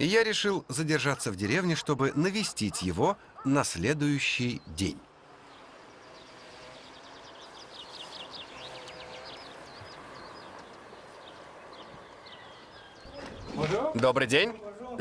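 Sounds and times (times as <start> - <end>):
rural outdoor background: 0.0 - 15.0
small birds chirping: 0.0 - 15.0.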